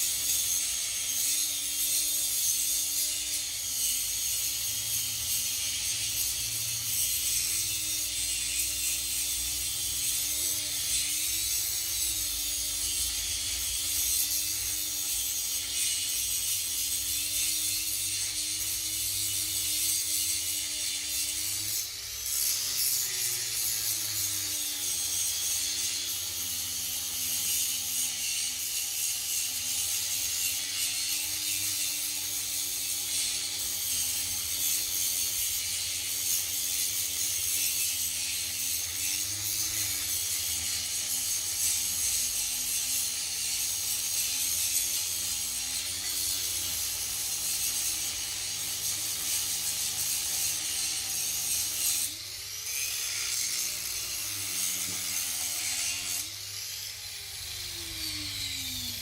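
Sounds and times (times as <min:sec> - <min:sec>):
shop tool motor hum: 0:00.0 - 0:59.0.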